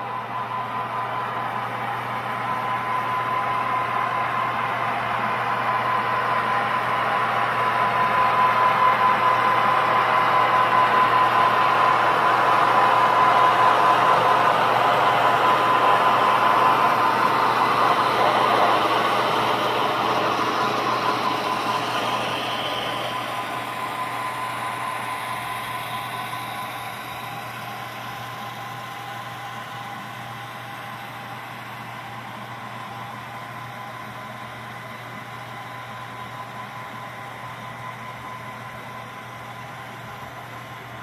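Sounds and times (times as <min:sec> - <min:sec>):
model locomotive diesel engine sound: 0:00.0 - 0:41.0.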